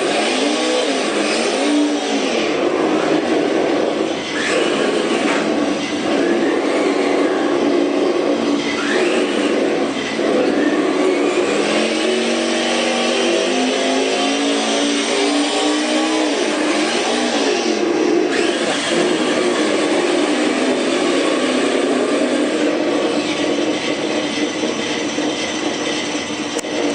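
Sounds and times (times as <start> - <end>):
simulated engine revving: 0.0 - 26.9.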